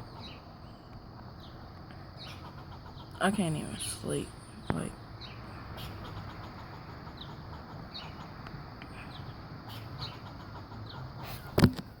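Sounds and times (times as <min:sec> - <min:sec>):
squirrel chirping: 0:00.0 - 0:11.6.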